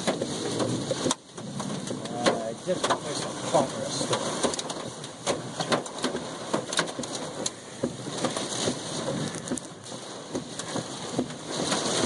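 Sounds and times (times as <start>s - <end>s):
hailstones knocking on car: 0.0s - 12.0s
rain and wind hissing: 0.0s - 12.0s.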